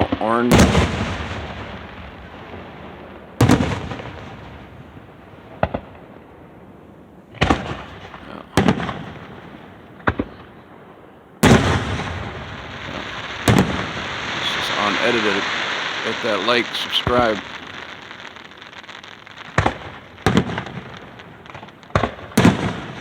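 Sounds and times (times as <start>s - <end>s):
fireworks booming and cracking: 0.0s - 6.6s, 7.3s - 23.0s.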